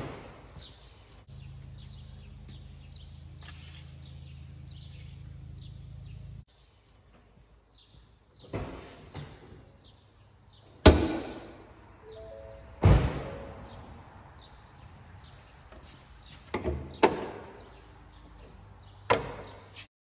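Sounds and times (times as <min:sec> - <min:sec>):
small birds chirping: 0:00.5 - 0:10.8, 0:13.6 - 0:19.9.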